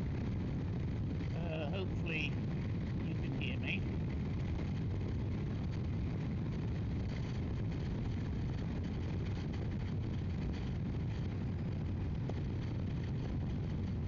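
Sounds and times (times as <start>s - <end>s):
wind rush and road noise: 0.0s - 14.0s.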